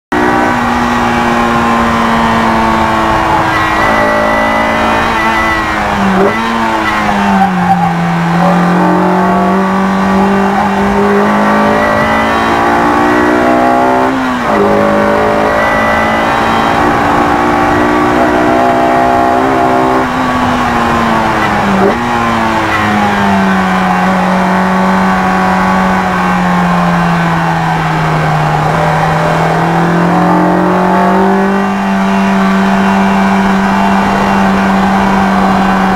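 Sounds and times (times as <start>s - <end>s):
car engine at high revs: 0.1s - 35.9s.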